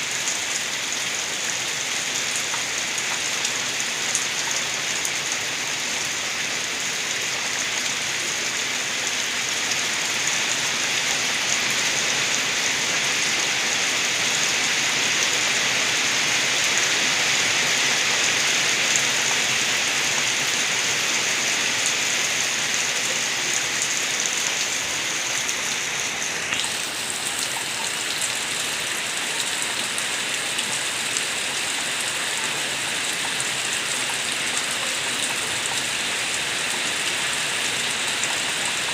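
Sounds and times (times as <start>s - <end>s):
rainwater gurgling: 0.0s - 38.9s
steady rain: 0.0s - 38.9s.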